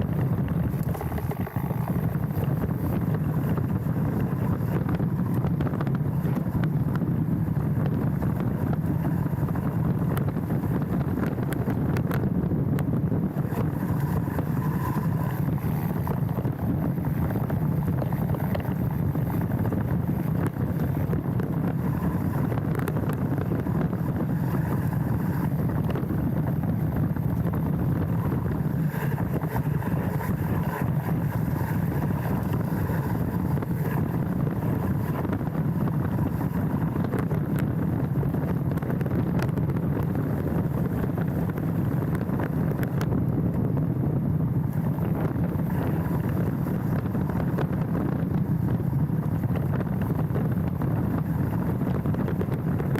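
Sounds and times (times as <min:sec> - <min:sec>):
bike clicks and rattles: 0:00.0 - 0:43.7
bike riding rumble: 0:00.0 - 0:52.9
wind: 0:00.0 - 0:52.9.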